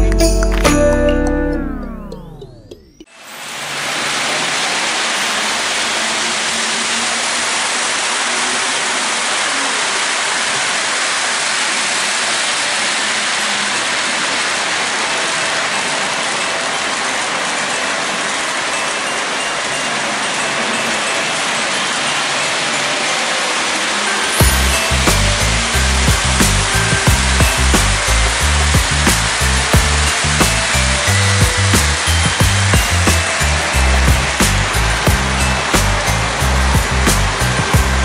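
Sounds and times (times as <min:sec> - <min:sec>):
model train running on track: 0:03.2 - 0:38.0.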